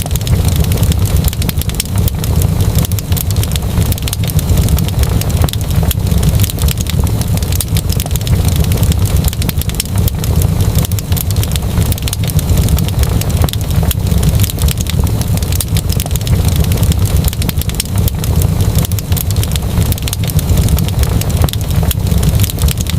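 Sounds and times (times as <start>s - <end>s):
wood fire crackling: 0.0s - 22.9s.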